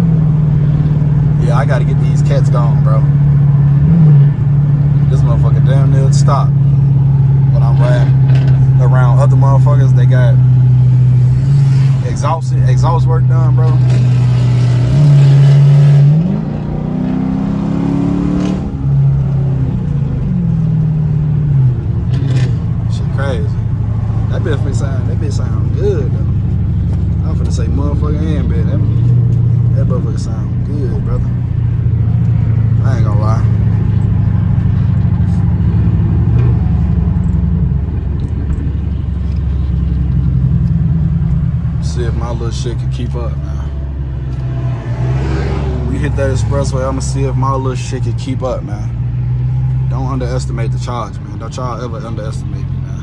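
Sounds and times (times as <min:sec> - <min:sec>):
car exhaust revving: 0:00.0 - 0:53.0.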